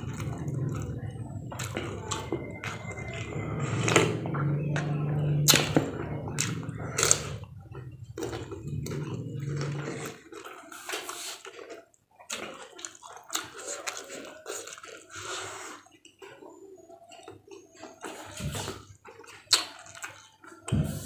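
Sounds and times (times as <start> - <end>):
wet crunching and chewing: 0.0 - 20.8.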